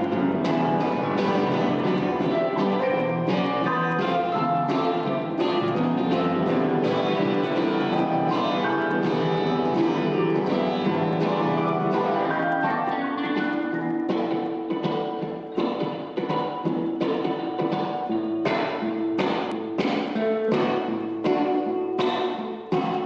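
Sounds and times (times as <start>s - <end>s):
live acoustic instrumental music: 0.0s - 23.0s.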